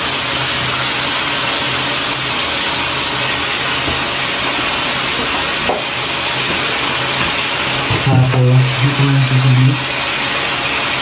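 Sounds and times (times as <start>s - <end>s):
curry cooking hiss: 0.0s - 11.0s.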